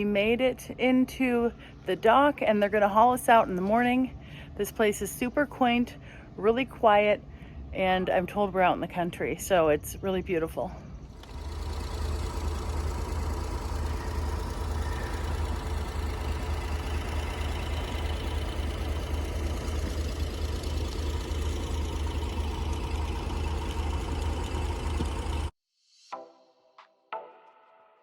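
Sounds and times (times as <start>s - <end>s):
engine idling with low hum: 0.0s - 25.5s.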